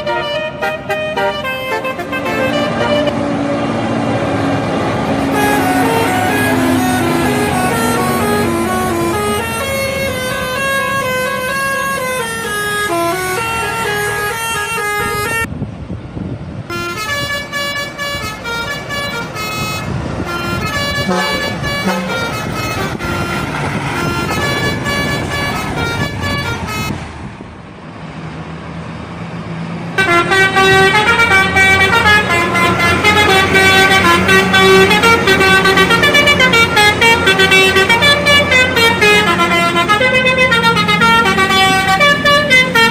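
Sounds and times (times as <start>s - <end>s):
bus air horns playing melodies: 0.0s - 15.5s, 16.7s - 27.0s, 29.9s - 42.9s
bus engine running: 0.0s - 42.9s.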